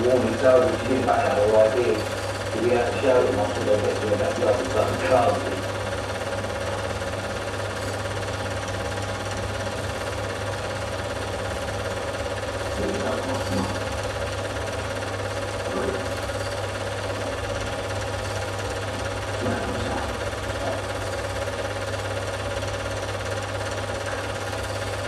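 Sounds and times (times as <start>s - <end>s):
film projector clatter: 0.0s - 25.0s.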